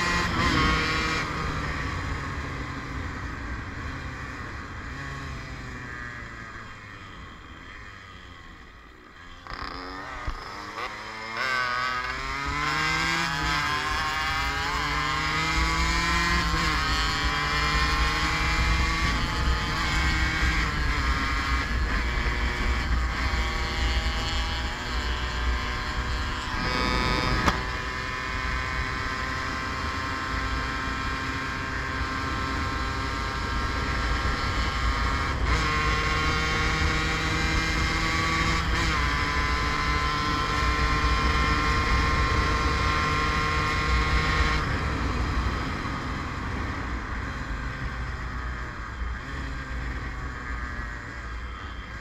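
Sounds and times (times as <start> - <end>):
two-stroke motorcycle engine: 0.0 - 52.0.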